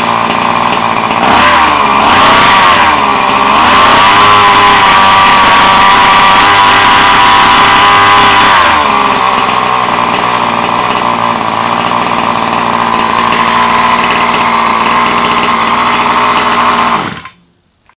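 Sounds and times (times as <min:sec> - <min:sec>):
rc car engine running: 0:00.0 - 0:17.4.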